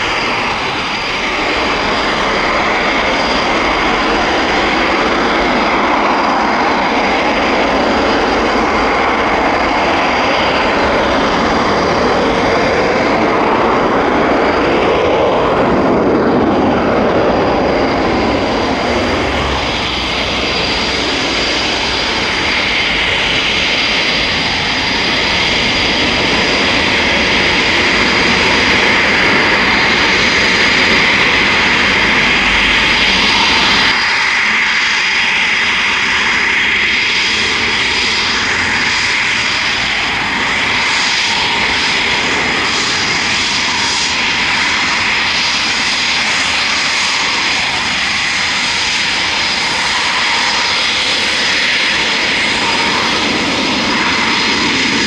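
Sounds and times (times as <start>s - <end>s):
jet engines rumbling in flight: 0.0s - 55.0s
jet engines whining on ground: 0.0s - 55.0s.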